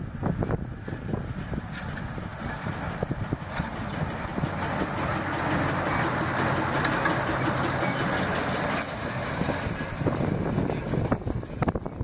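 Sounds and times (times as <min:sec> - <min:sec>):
diesel locomotive engine running: 0:00.0 - 0:12.0
train wheels clattering on rails: 0:01.2 - 0:11.8.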